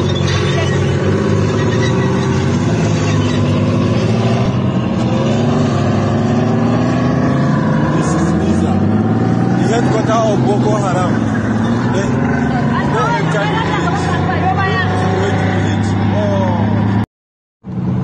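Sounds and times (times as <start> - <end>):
heavy vehicle engine droning: 0.0 - 17.0, 17.6 - 18.0.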